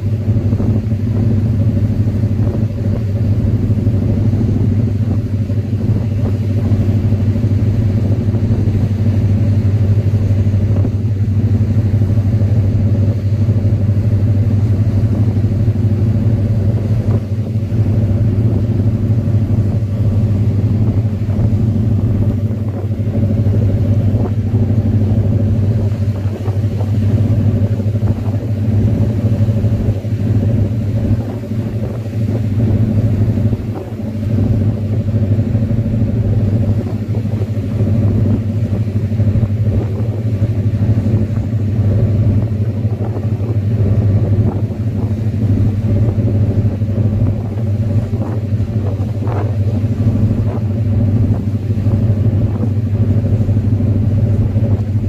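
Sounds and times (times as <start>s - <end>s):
vehicle engine drone: 0.0s - 55.0s.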